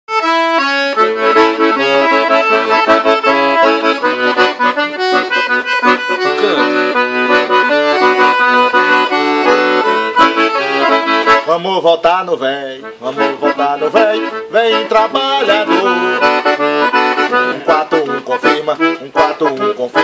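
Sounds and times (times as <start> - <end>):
button accordion melody: 0.1 - 20.0.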